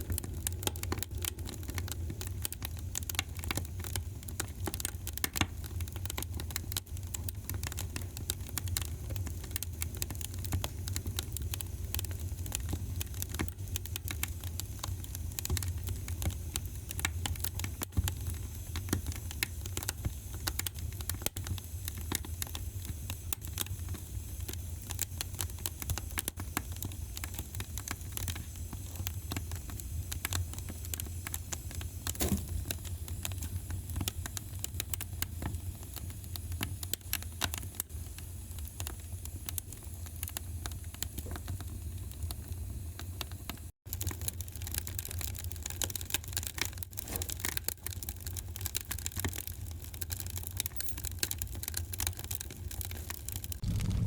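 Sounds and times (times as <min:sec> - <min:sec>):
low fire rumble: 0:00.0 - 0:42.3, 0:51.4 - 0:54.0
wood fire crackling: 0:00.0 - 0:54.0.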